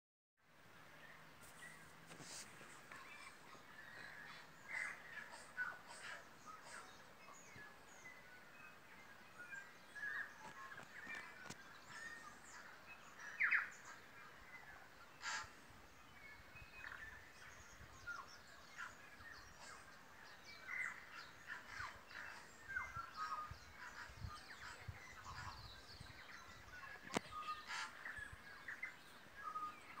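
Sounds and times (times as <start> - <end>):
forest birds chirping and whistling: 0.9 - 30.0.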